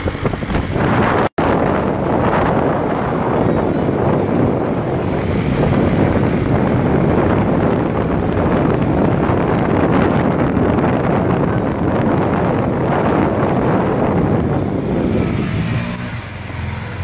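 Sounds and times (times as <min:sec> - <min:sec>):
moving vehicle rumble: 0:00.0 - 0:17.0
wind rushing over microphone: 0:00.0 - 0:17.0.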